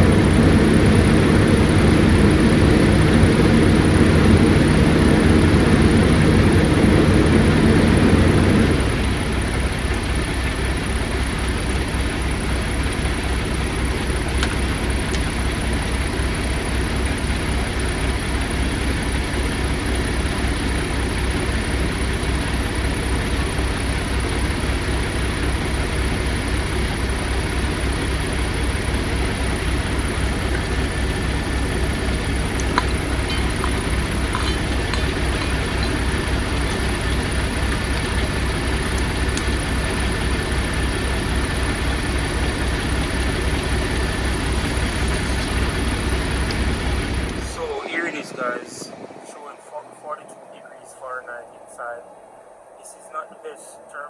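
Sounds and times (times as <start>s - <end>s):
diesel truck engine idling: 0.0s - 48.1s.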